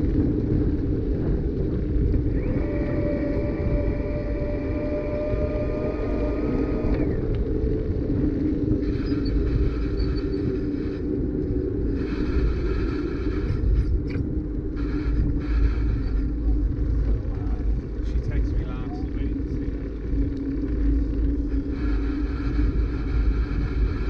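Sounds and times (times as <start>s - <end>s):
bicycle tyre rumble on asphalt: 0.0s - 24.0s
steady pitched hum: 0.0s - 24.0s
wind buffeting microphone: 0.0s - 24.0s.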